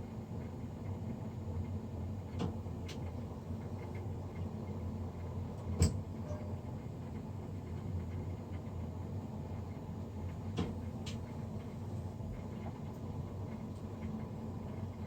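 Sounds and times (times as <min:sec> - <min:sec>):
boiler fan humming: 0:00.0 - 0:15.0.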